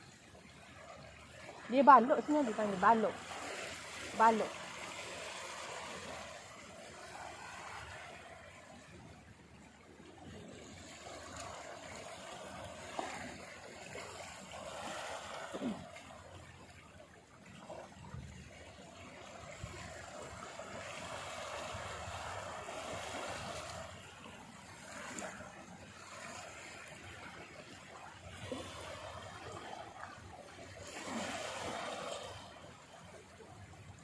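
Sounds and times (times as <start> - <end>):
sea waves washing on beach: 0.0 - 34.0.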